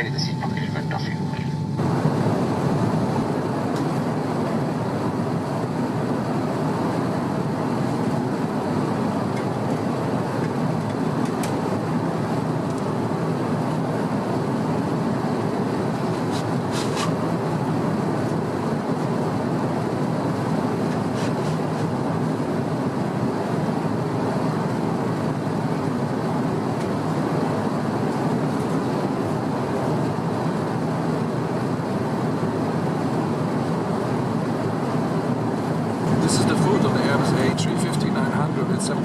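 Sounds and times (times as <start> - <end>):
airplane cabin engine drone: 0.0 - 39.0.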